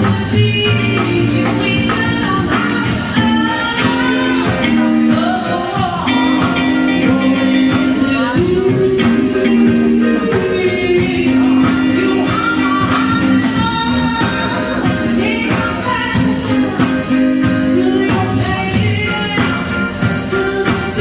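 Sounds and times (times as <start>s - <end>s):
person singing: 0.0s - 21.0s
rock or pop music with guitar: 0.0s - 21.0s.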